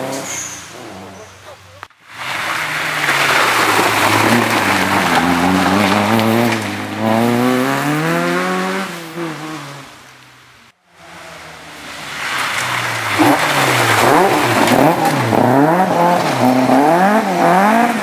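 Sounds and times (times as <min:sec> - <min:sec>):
tyres spraying gravel: 0:00.0 - 0:09.8, 0:11.0 - 0:17.2
rally car engine revving: 0:00.0 - 0:10.2, 0:10.9 - 0:18.0.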